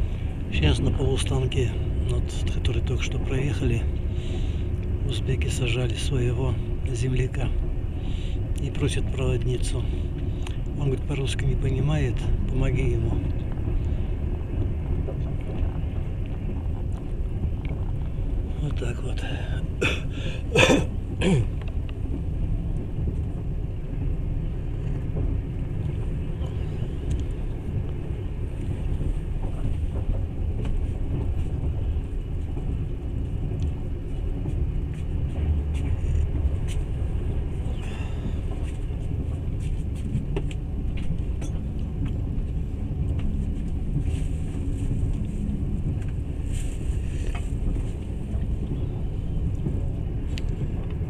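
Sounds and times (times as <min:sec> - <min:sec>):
train rumble inside carriage: 0:00.0 - 0:51.0.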